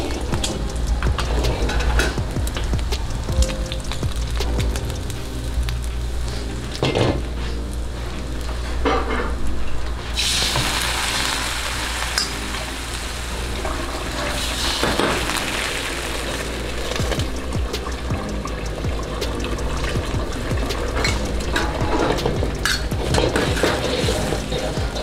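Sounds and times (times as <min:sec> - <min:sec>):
egg sizzling in hot oil: 0:00.0 - 0:06.8, 0:10.1 - 0:25.0.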